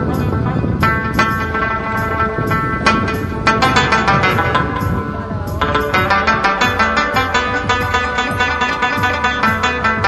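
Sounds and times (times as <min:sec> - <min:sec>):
background music with held tones: 0:00.0 - 0:10.0
percussive hits: 0:01.3 - 0:10.0.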